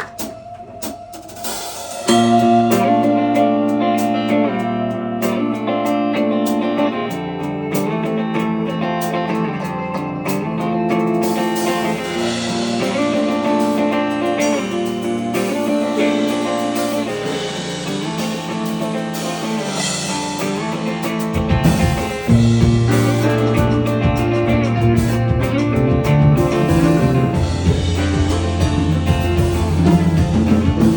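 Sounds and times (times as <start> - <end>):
live band playing: 0.0 - 9.3, 10.2 - 30.9
guitar chords: 0.0 - 30.9.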